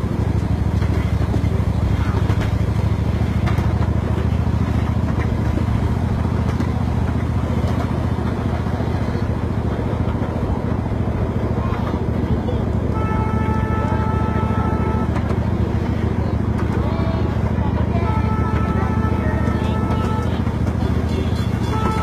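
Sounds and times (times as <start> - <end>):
miniature train engine drone: 0.0 - 22.0.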